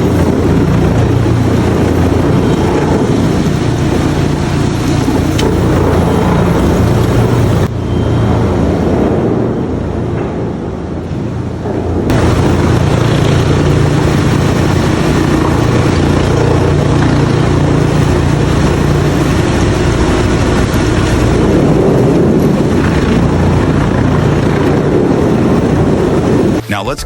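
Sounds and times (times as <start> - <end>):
low machinery hum: 0.0 - 26.6
dense machinery clatter: 0.0 - 27.0.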